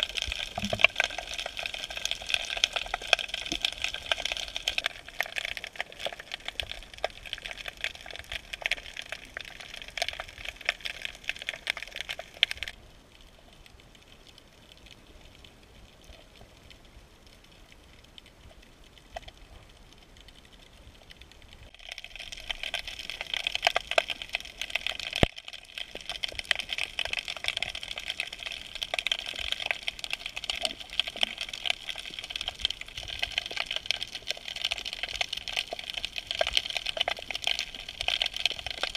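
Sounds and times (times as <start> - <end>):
snapping shrimp crackle underwater: 0.0 - 38.9.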